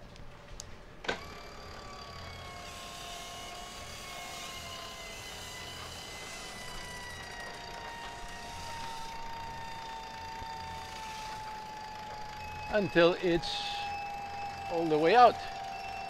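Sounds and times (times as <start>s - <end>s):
winch motor whining: 0.6s - 16.0s.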